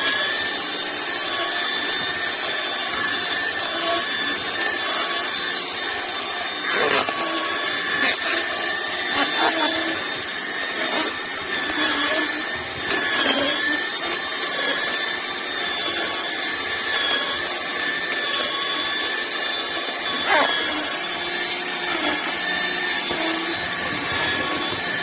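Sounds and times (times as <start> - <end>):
juicer motor whine: 0.0 - 25.0.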